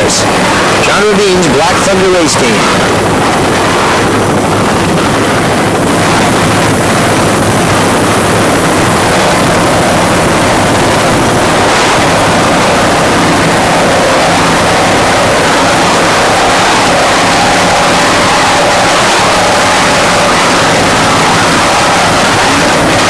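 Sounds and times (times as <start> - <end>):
steady engine drone: 0.0 - 23.0.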